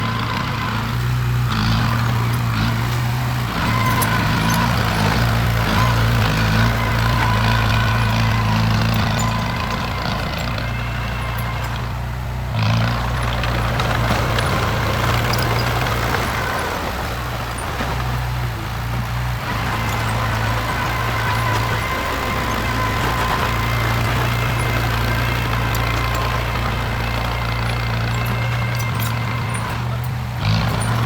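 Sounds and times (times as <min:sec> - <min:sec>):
heavy machinery diesel engine: 0:00.0 - 0:31.0.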